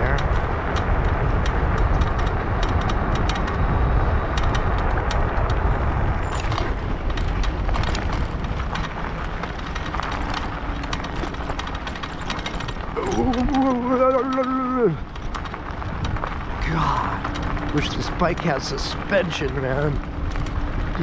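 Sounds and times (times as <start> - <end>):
bicycle frame rattling: 0.0 - 21.0
bicycle tyres rumbling: 0.0 - 21.0.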